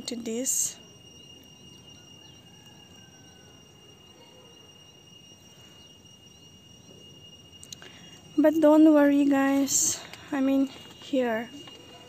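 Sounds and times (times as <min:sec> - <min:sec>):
faint chirps: 0:00.0 - 0:12.0
insect trill whine: 0:00.0 - 0:12.0.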